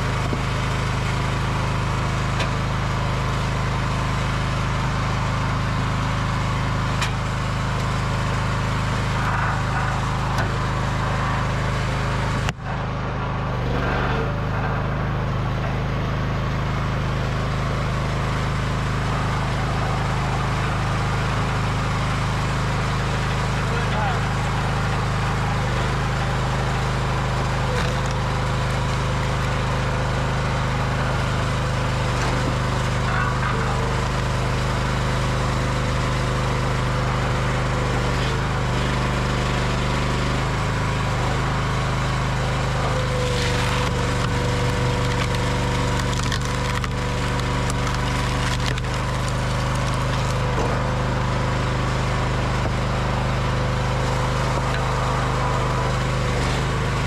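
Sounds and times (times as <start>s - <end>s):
log splitter engine running: 0.0s - 57.0s
wood cracking and splintering: 6.9s - 57.0s.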